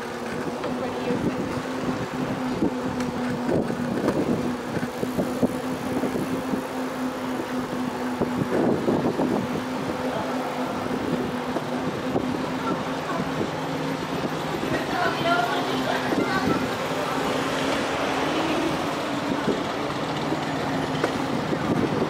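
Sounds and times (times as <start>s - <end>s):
road and wind noise: 0.0s - 22.0s
steady low hum: 0.0s - 22.0s
traffic: 0.0s - 22.0s.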